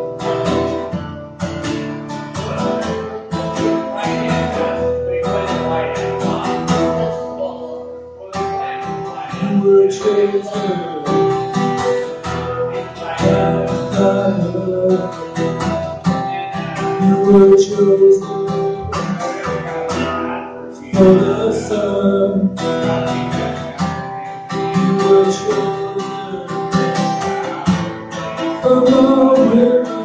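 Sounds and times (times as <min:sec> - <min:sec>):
acoustic guitar strumming: 0:00.0 - 0:30.0
man singing: 0:02.4 - 0:30.0.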